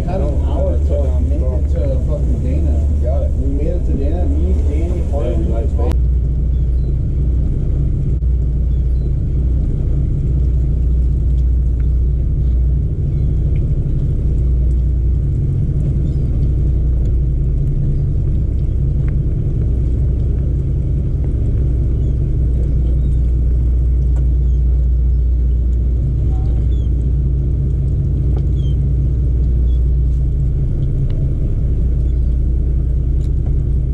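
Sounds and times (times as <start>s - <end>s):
boat engines droning: 0.0s - 33.9s.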